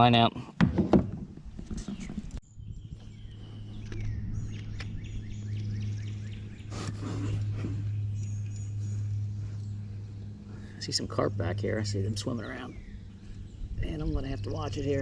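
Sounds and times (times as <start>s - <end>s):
songbirds chirping: 1.4s - 15.0s
steady low hum: 2.3s - 15.0s.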